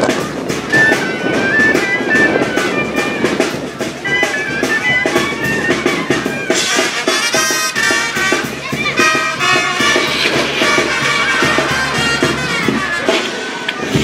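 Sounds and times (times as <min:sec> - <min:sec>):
reedy wind instrument melody: 0:00.0 - 0:14.0
steady drum beat: 0:00.0 - 0:14.0.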